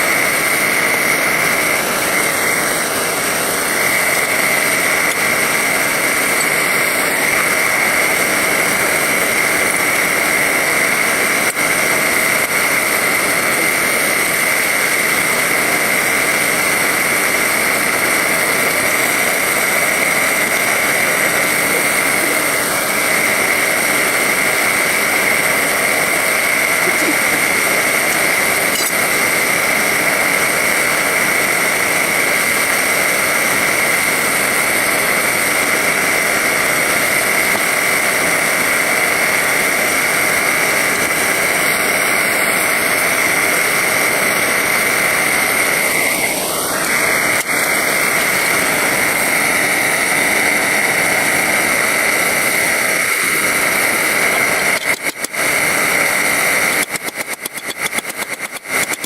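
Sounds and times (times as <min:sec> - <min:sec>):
machine whining: 0:00.0 - 0:59.0.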